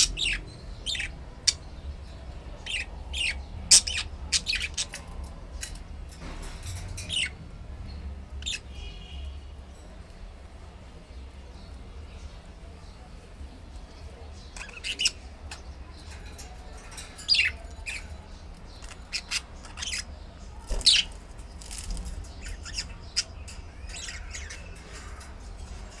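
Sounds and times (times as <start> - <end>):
birds squawking and chirping: 0.0 - 26.0.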